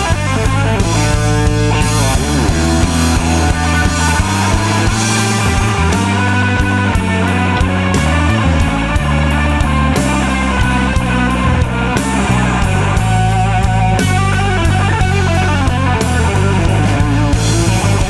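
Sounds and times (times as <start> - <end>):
bass line: 0.0 - 18.0
electric guitar: 0.0 - 18.0
steady drum beat: 0.0 - 18.0.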